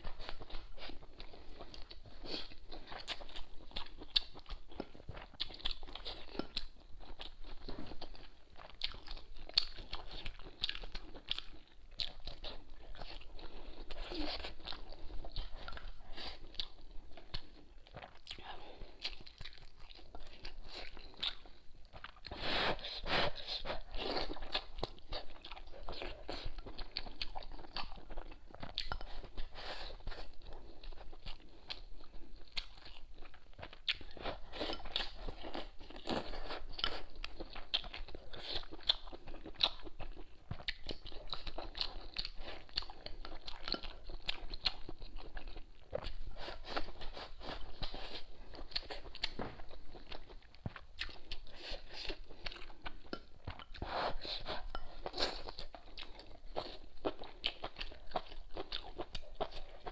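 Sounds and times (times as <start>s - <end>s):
close-miked chewing and biting: 0.0s - 59.9s.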